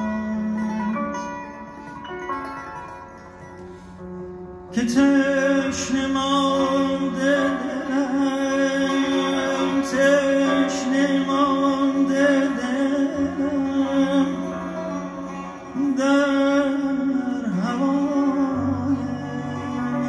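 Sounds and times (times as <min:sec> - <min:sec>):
man singing: 0:00.0 - 0:01.7, 0:04.7 - 0:20.0
string ensemble and piano: 0:00.0 - 0:20.0.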